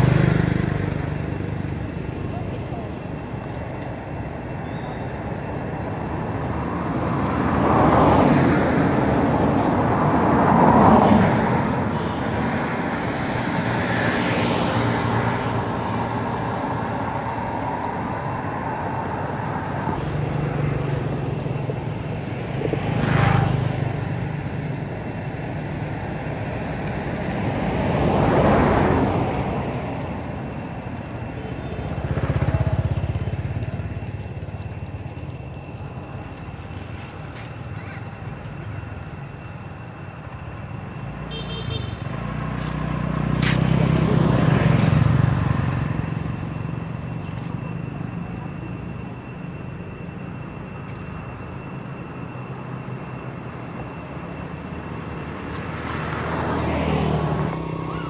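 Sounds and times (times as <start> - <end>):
steady engine hum: 0.0 - 58.0
vehicles passing: 0.0 - 58.0.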